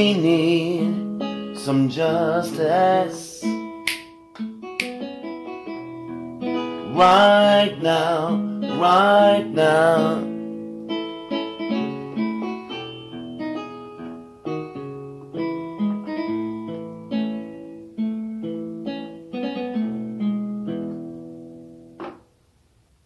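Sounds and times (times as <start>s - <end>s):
guitar chords ringing: 0.0s - 22.1s.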